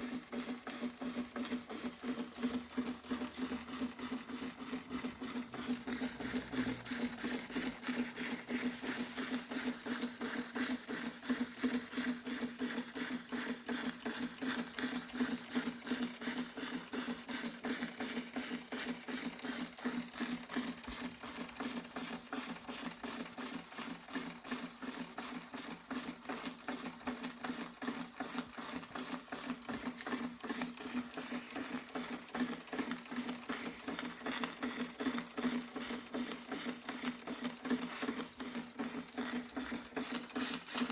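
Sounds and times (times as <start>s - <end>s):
model steam engine running: 0.0s - 40.9s.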